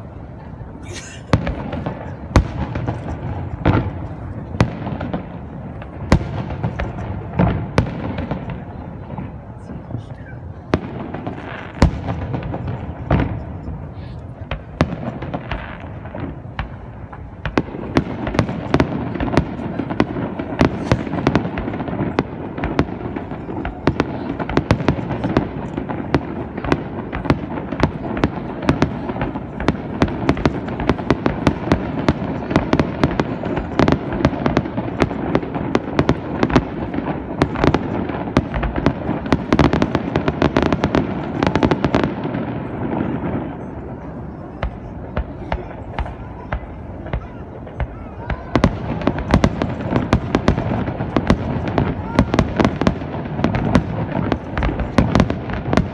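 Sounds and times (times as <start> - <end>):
fireworks bursts and crackles: 0.0 - 55.9.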